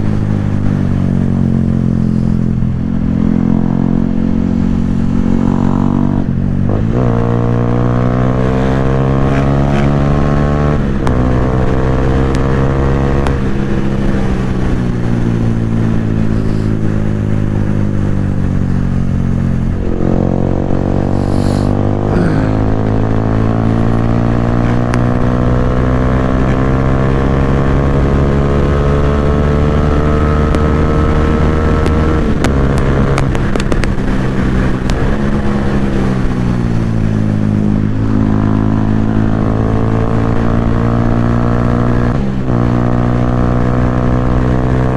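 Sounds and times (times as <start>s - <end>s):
motorcycle engine through loud exhaust: 0.0s - 44.9s.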